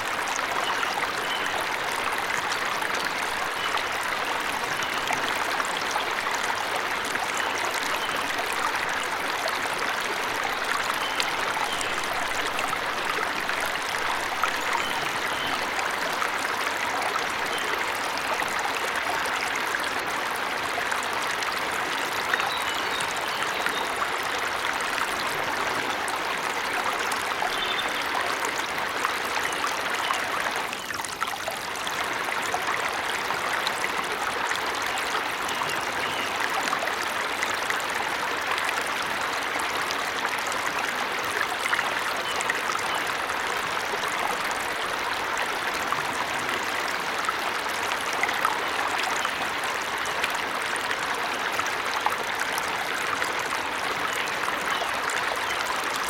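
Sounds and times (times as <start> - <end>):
waterfall rushing and trickling: 0.0 - 56.0.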